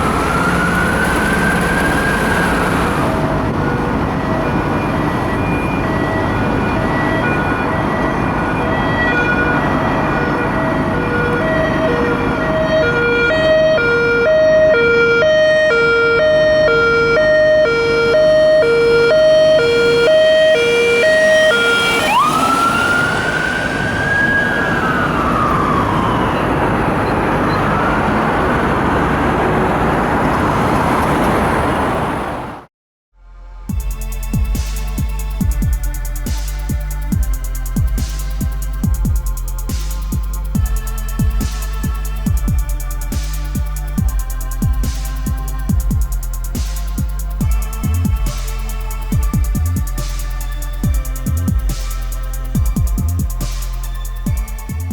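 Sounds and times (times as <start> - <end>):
two-tone emergency siren: 0.0 - 32.6, 33.5 - 54.9
wailing siren: 0.0 - 32.6, 33.5 - 54.9
traffic noise: 0.0 - 32.7, 33.7 - 54.9.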